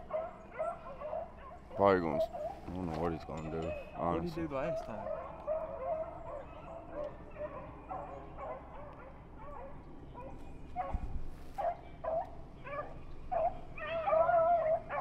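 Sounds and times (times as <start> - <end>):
beagles baying: 0.0 - 15.0.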